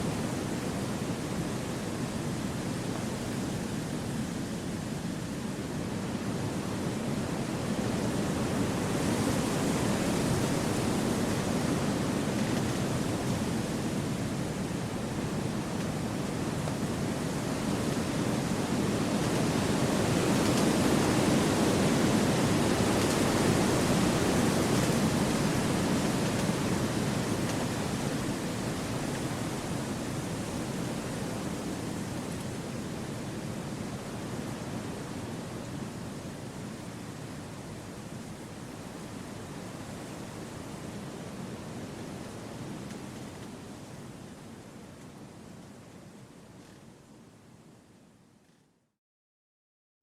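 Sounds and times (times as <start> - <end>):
wind blowing through trees: 0.0 - 48.6.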